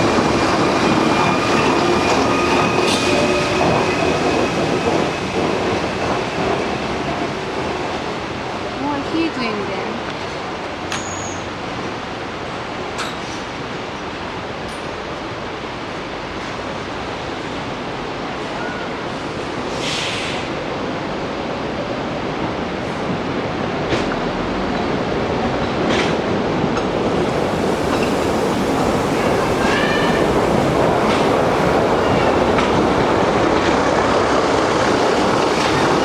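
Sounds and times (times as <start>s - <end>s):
train rushing on rails: 0.0s - 36.0s.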